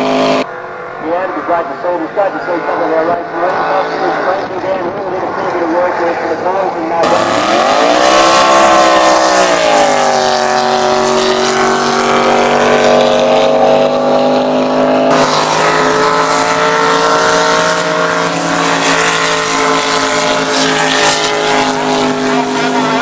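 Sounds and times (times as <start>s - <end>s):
boat engine at high revs: 0.0s - 23.0s.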